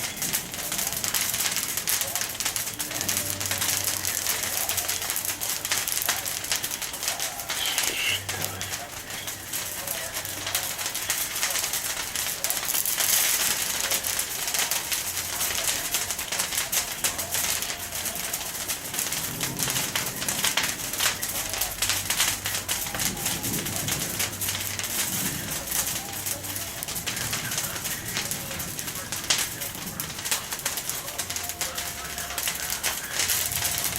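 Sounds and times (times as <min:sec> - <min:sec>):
bonfire crackling and popping: 0:00.0 - 0:33.9.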